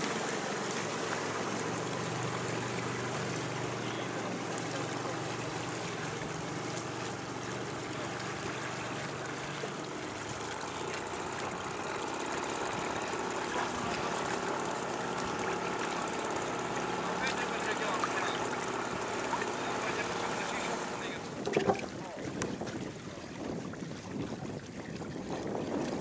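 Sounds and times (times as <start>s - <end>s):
low motor hum: 0.0s - 26.0s
water and wind rushing: 0.0s - 26.0s.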